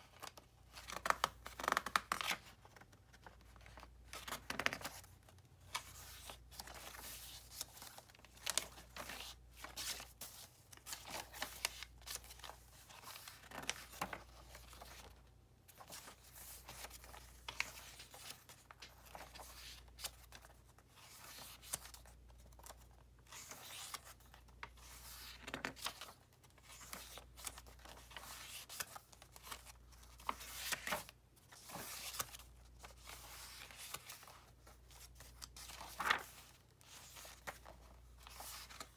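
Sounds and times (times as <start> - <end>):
paper pages turning: 0.0 - 38.9.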